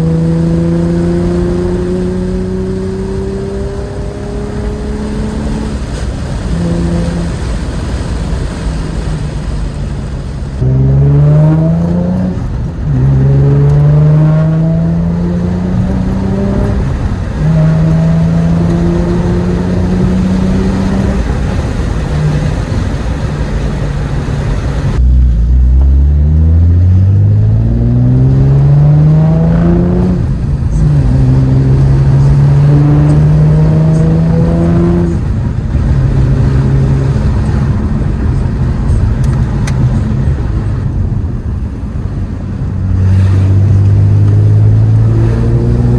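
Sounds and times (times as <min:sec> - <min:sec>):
car engine accelerating through gears: 0:00.0 - 0:45.9.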